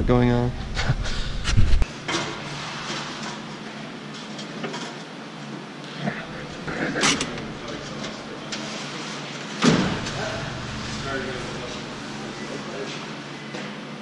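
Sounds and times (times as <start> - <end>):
steady hum: 0.0 - 4.2, 5.6 - 14.0.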